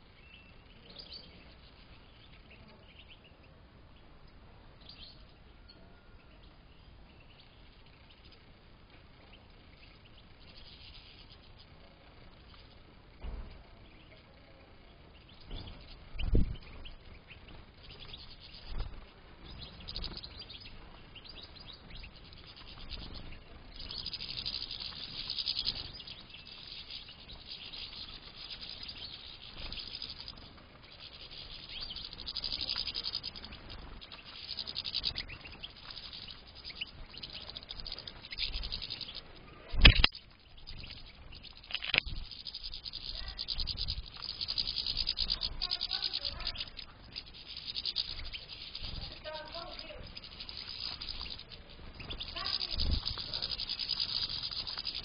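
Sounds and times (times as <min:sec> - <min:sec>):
finches chirping and twittering: 0:00.0 - 0:55.0.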